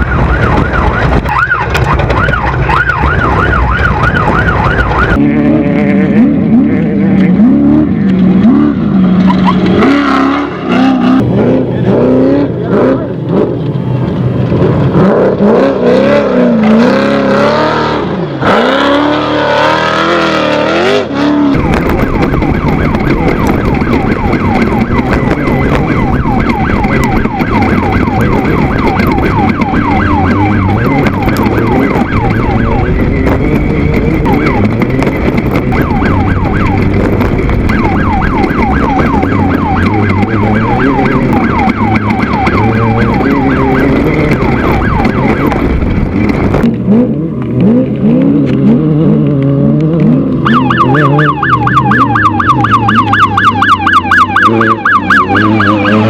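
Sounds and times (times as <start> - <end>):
race buggy engines revving: 0.0 - 56.0.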